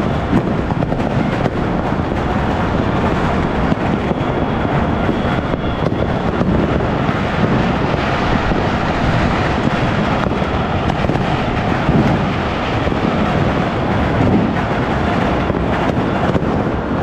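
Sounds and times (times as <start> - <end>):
sharp firework bangs: 0.0 - 16.9
fireworks rumbling roar: 0.0 - 17.0.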